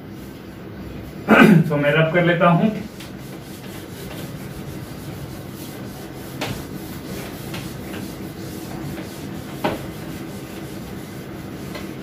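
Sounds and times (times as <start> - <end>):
duster rubbing on whiteboard: 0.0 - 12.0.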